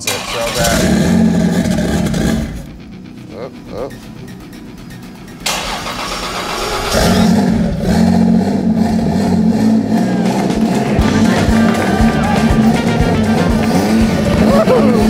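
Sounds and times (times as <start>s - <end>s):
car engine starting and running: 0.0s - 15.0s.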